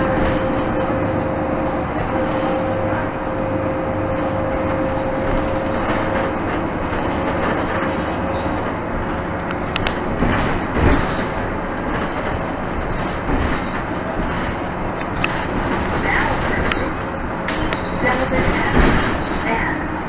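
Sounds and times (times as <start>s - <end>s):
bus drivetrain and road rumble: 0.0s - 20.0s.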